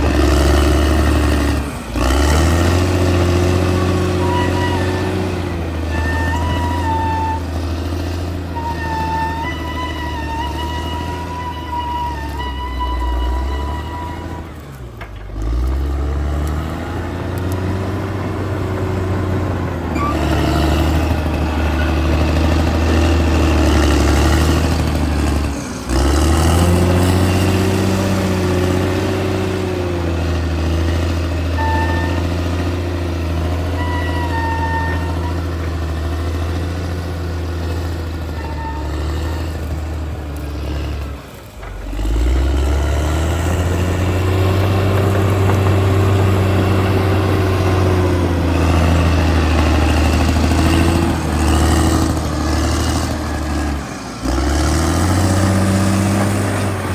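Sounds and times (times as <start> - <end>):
bulldozer engine running: 0.0 - 56.9.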